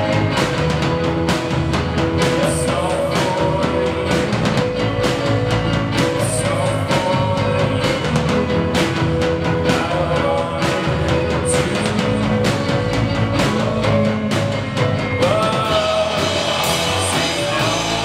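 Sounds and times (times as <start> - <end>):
drum kit beat: 0.0 - 18.0
electric guitars: 0.0 - 18.0
keyboard: 0.0 - 18.0.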